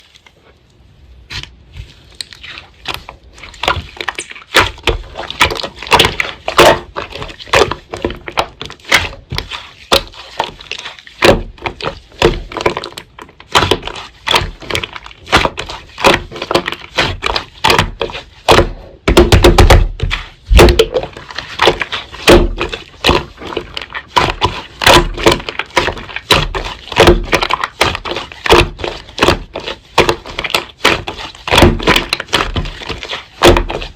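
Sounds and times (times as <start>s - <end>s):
slime squelching: 0.0s - 33.9s.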